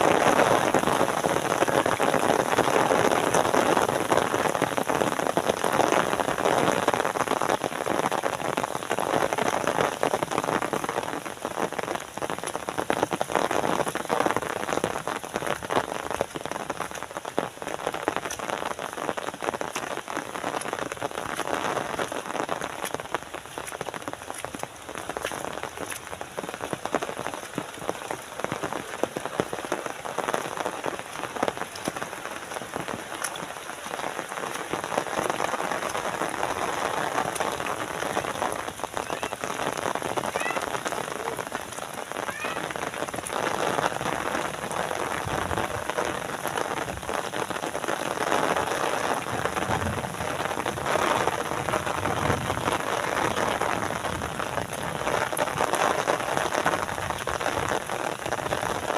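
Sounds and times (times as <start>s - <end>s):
rain pattering on roofs and foliage: 0.0s - 58.9s.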